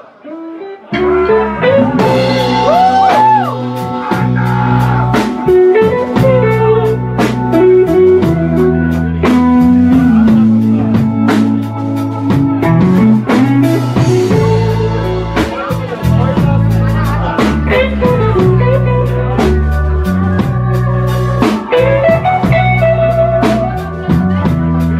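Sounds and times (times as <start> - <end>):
blues band playing: 0.0 - 24.9
electric guitar lead with bent notes: 0.0 - 24.9.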